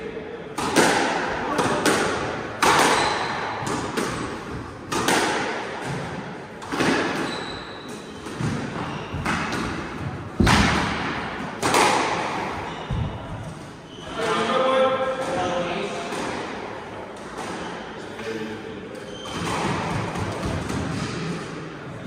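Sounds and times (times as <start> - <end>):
squash ball hitting rackets and walls: 0.5 - 18.0, 19.0 - 21.6.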